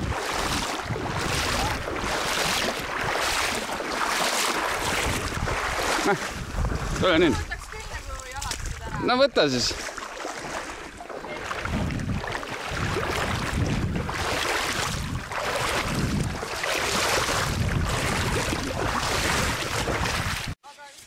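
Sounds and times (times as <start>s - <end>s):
wind rumbling on microphone: 0.0s - 3.8s, 4.6s - 9.8s, 10.6s - 20.6s
water splashing from wading: 0.0s - 20.6s.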